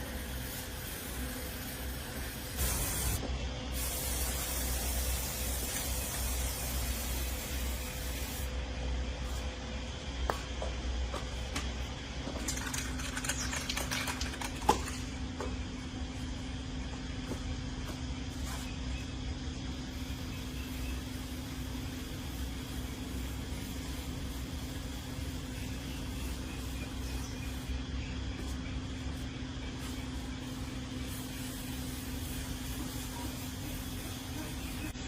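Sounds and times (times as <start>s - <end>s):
machine humming and hissing: 0.0s - 12.4s, 15.0s - 35.0s.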